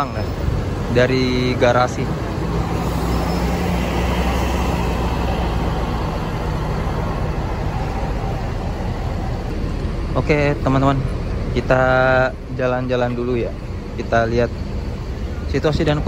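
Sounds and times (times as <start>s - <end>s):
bus diesel engine droning: 0.0s - 16.0s
vehicles moving: 0.0s - 16.0s.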